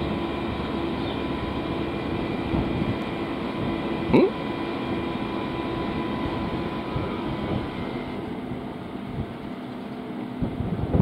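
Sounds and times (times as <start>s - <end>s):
constant tone: 0.0s - 10.9s
train equipment humming: 0.0s - 11.0s.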